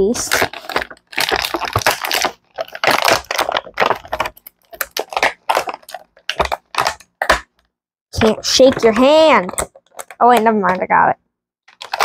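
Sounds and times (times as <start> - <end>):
plastic bag crinkling: 0.0 - 7.4, 8.2 - 10.8, 11.7 - 12.0.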